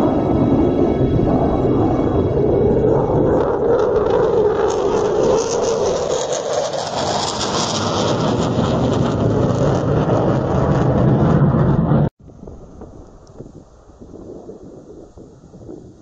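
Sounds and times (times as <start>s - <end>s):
fighter jet roaring overhead: 0.0s - 15.7s.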